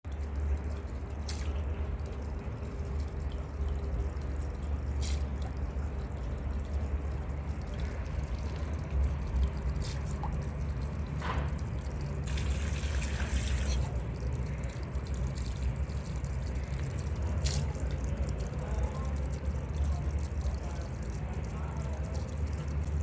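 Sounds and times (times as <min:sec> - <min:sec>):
water trickling: 0:00.1 - 0:23.0.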